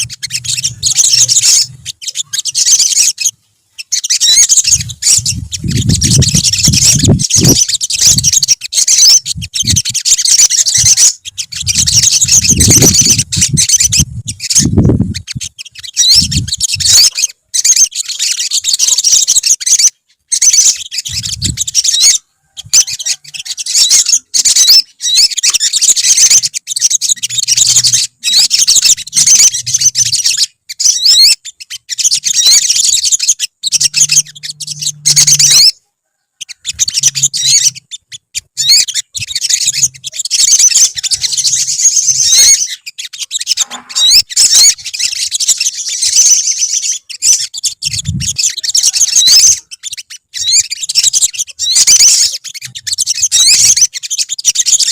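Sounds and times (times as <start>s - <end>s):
birds chirping and trilling: 0.0s - 54.9s.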